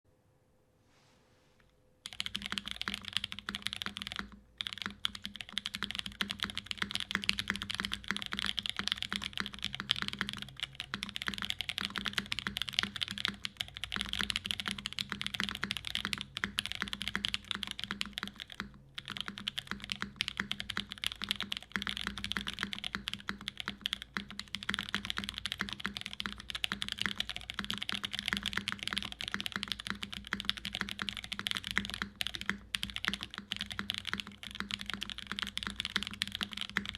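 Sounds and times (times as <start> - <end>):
fast mechanical keyboard typing: 2.0 - 36.9.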